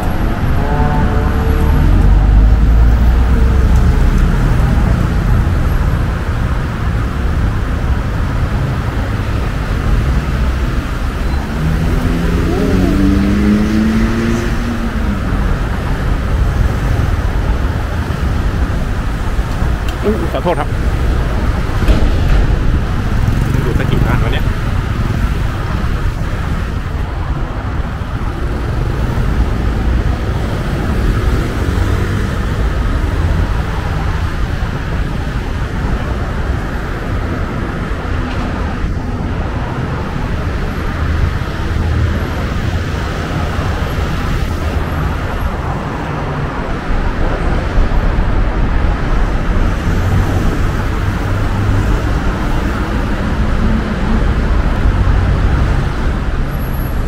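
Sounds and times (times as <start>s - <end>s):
cars passing close by: 0.0s - 57.0s.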